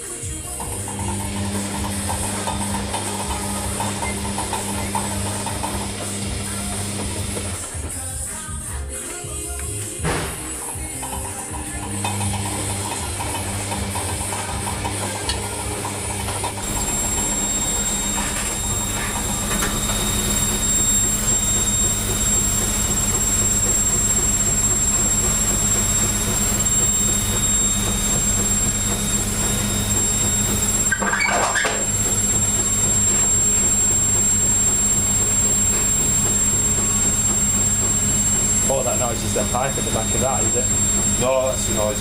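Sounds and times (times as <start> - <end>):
high whine: 0.0 - 8.3, 10.0 - 42.0
washing machine motor hum: 0.0 - 42.0
washing machine rattle: 0.5 - 8.0, 10.0 - 42.0.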